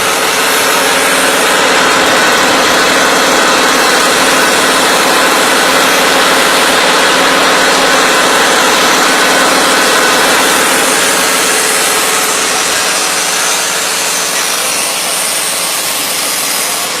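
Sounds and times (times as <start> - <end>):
shredding machine running: 0.0 - 17.0.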